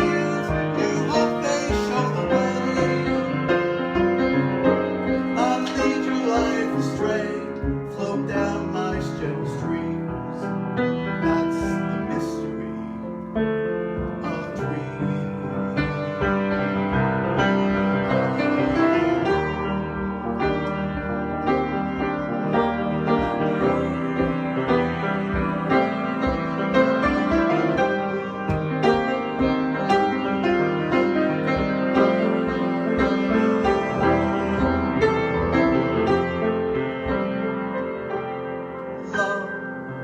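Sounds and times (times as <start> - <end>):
slow piano piece: 0.0 - 40.0.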